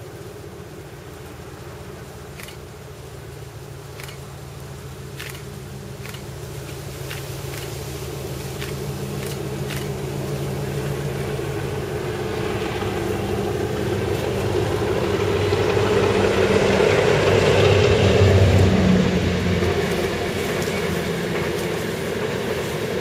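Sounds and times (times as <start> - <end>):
diesel locomotive engine drone: 0.0 - 23.0
train wheels rushing on rails: 3.7 - 23.0.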